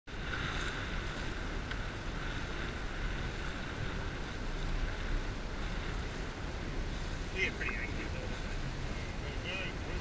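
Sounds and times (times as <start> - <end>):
wind noise on microphone: 0.1 - 10.0.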